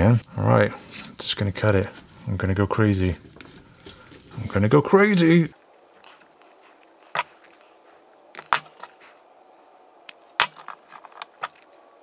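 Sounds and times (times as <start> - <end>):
wires rustling: 1.8 - 12.0.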